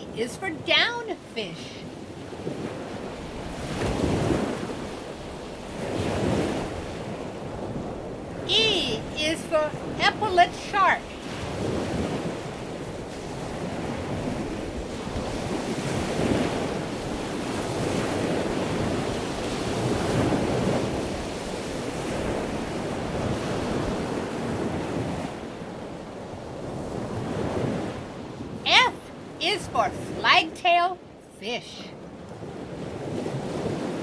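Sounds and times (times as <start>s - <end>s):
ocean waves and surf: 0.0s - 34.0s.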